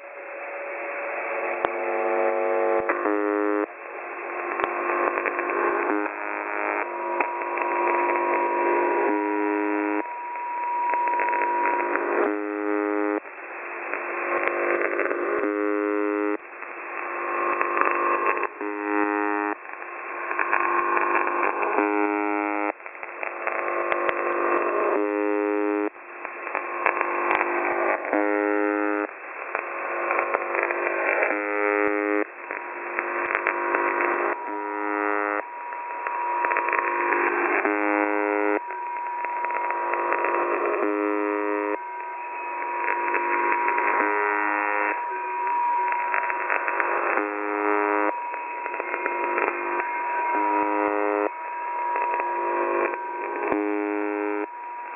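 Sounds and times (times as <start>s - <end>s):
crackling radio interference: 0.0s - 54.9s
harsh radio buzz tone: 0.0s - 54.9s.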